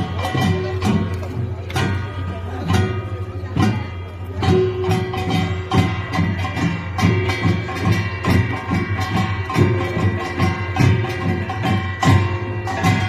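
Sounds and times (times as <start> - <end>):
percussion ensemble playing: 0.0 - 13.0.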